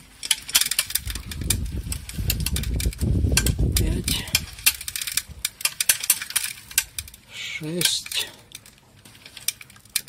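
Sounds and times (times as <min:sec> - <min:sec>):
chain drive clicking and rattling: 0:00.1 - 0:10.0.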